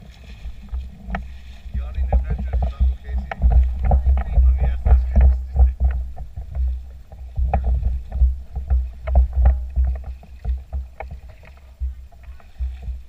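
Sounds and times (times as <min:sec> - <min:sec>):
low rumble: 0:00.0 - 0:13.0
water slapping paddleboard: 0:00.0 - 0:13.0.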